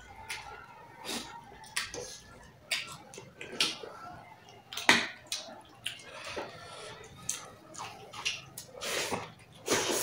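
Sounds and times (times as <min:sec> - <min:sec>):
lip smacks and chewing: 0:00.2 - 0:10.0.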